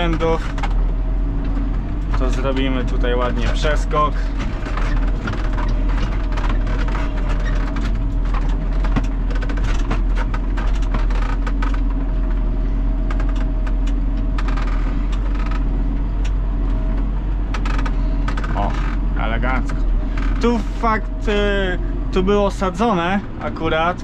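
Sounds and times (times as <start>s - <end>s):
light clicks and rattles: 0.0s - 21.4s
tractor diesel engine running: 0.0s - 24.0s.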